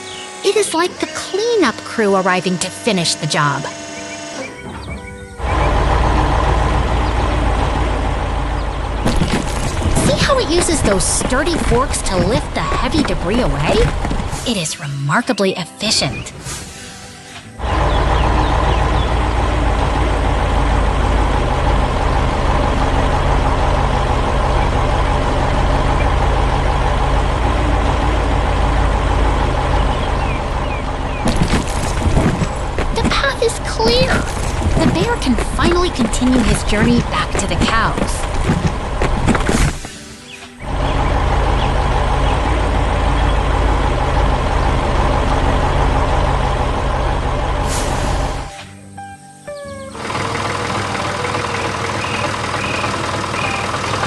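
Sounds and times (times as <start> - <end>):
heavy diesel engine running: 0.0 - 48.6, 49.9 - 54.0.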